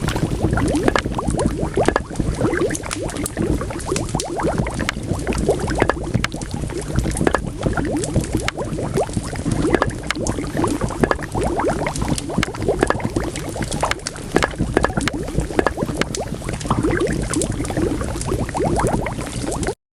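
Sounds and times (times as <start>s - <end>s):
wood fire crackling: 0.0s - 19.6s
liquid bubbling at a boil: 0.0s - 19.8s.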